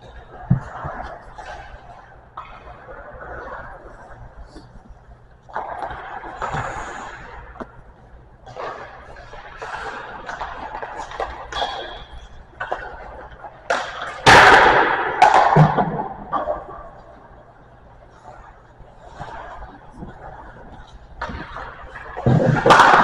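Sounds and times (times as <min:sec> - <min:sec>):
skate blades scraping ice: 0:00.0 - 0:04.4, 0:05.5 - 0:07.8, 0:08.4 - 0:15.7, 0:18.1 - 0:23.0
pucks and sticks knocking: 0:00.0 - 0:17.4, 0:18.0 - 0:23.0.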